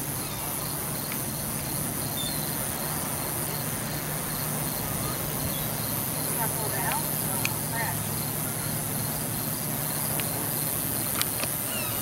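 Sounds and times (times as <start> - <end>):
crickets chirping: 0.0 - 12.0
outdoor noise rush: 0.0 - 12.0.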